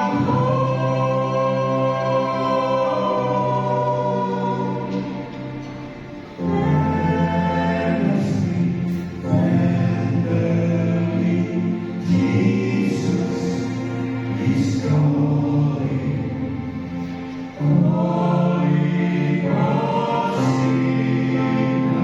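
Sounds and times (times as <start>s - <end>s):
church choir singing: 0.0s - 22.0s.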